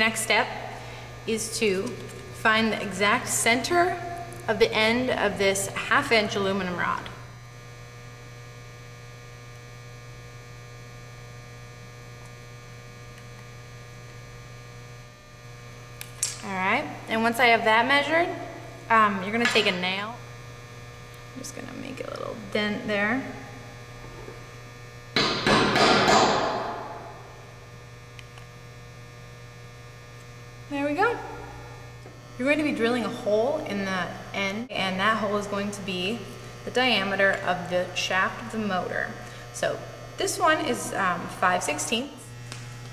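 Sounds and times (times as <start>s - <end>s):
low electrical hum: 0.0s - 42.9s.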